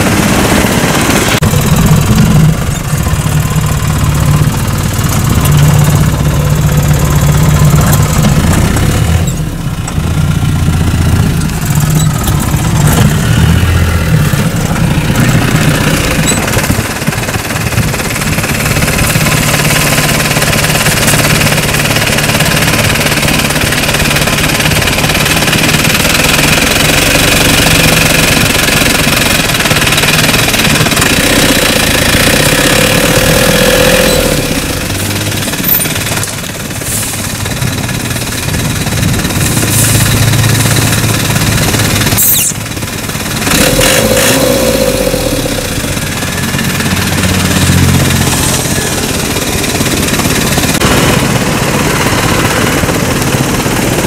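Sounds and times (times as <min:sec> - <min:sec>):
vehicle engine running loudly: 0:00.0 - 0:54.0.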